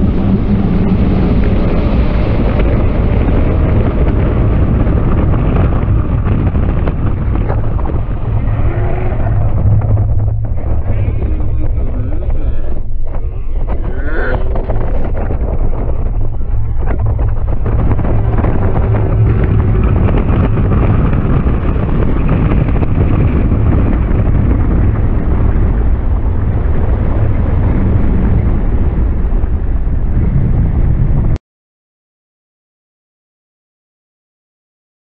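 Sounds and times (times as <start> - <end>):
wind buffeting microphone: 0.0 - 31.4.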